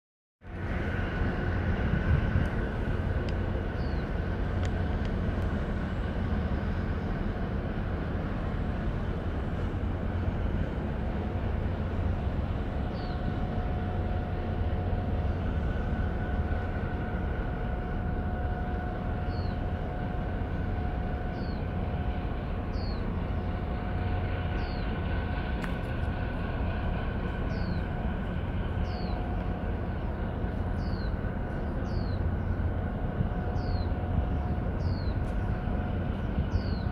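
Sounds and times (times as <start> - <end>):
ship engines rumbling: 0.4 - 36.9.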